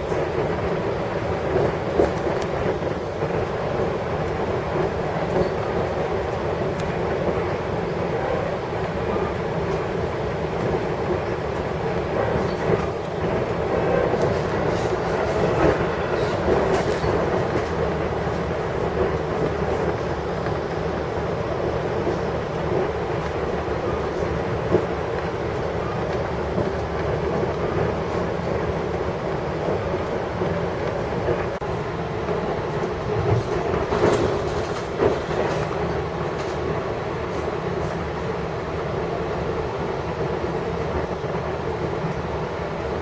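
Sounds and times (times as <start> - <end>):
train rumbling on rails: 0.0 - 43.0
wheels clicking on track: 0.0 - 43.0.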